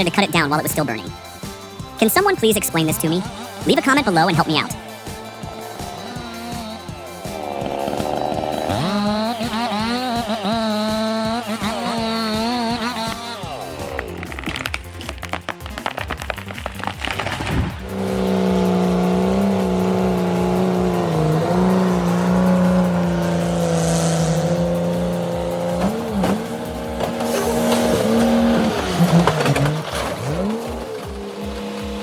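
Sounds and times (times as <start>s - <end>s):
faint music beat: 0.0s - 16.8s, 17.8s - 29.7s
small engine at high revs: 3.2s - 14.7s, 16.8s - 32.0s.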